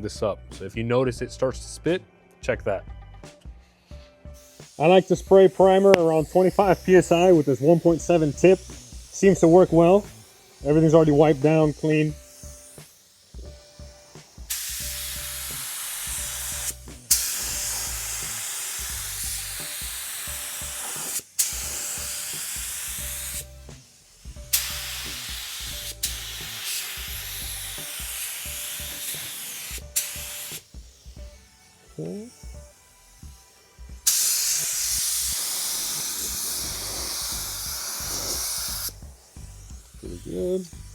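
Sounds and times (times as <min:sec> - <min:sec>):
spray gun hissing: 0:03.8 - 0:40.9.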